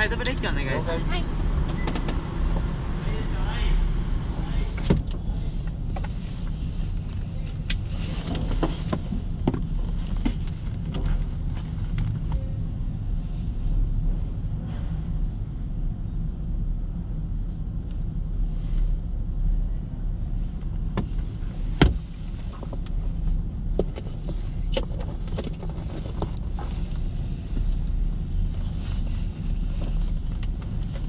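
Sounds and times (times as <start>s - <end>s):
low rumble of vehicle deck: 0.0s - 31.0s.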